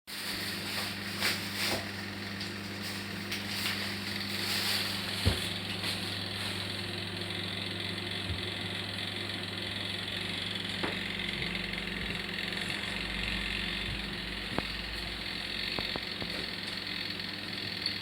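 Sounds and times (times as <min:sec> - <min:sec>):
electric fan motor humming: 0:00.1 - 0:18.0.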